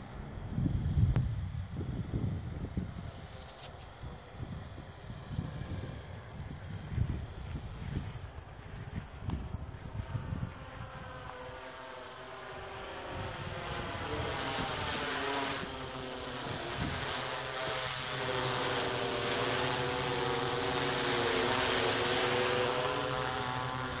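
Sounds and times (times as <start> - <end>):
drone propellers whirring: 0.0 - 24.0.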